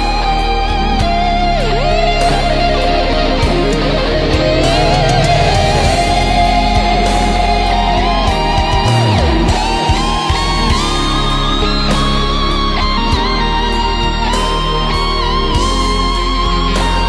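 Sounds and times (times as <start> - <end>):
guitar melody bending in pitch: 0.0 - 17.0
sustained low tones: 0.0 - 17.0.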